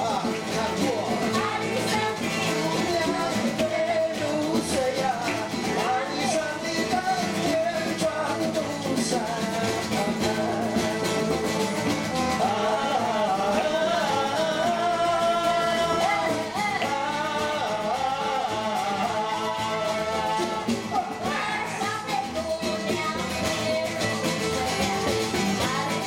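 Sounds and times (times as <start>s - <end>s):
man singing into microphone: 0.0s - 26.0s
second guitar: 0.0s - 26.0s
strummed acoustic guitar: 0.0s - 26.0s.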